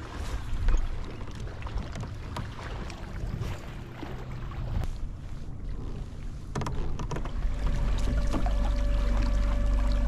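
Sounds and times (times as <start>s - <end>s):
water rumble: 0.0s - 10.0s.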